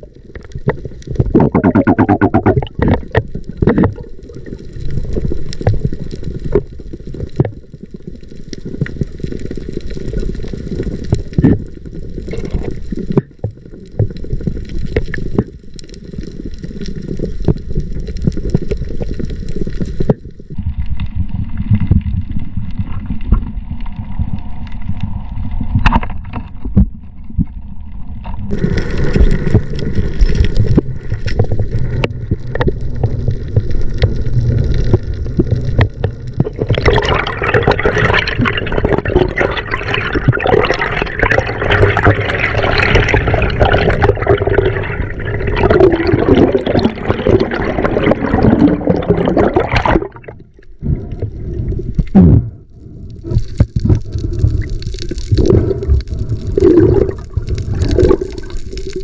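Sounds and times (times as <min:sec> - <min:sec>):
sea water sloshing and gurgling: 0:00.0 - 0:59.0.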